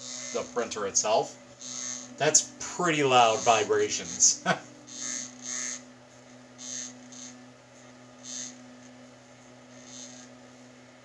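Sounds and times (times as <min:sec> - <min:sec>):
printer motor vibrating hum: 0:00.0 - 0:11.0.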